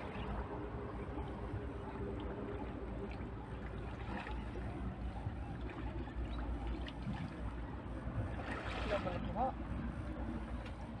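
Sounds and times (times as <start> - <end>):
low rumble and hiss: 0.0 - 11.0
water sloshing from wading: 0.0 - 11.0.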